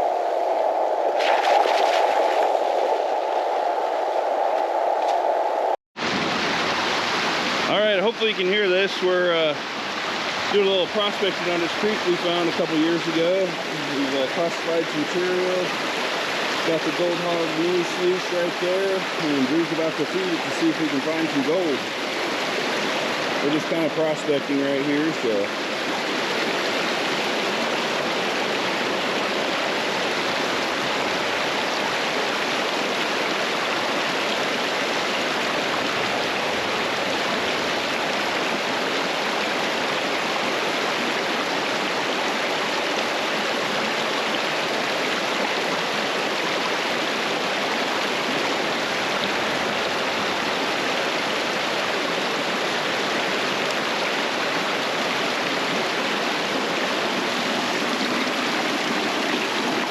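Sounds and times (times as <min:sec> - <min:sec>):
creek water rushing: 0:00.0 - 0:59.9.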